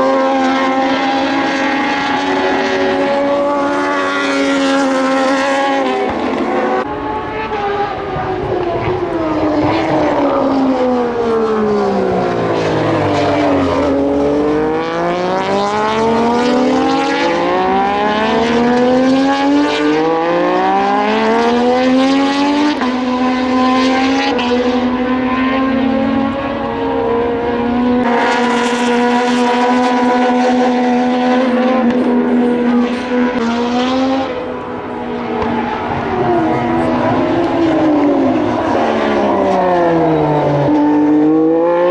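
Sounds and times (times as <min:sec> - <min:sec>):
race bike engines at high revs: 0:00.0 - 0:41.9.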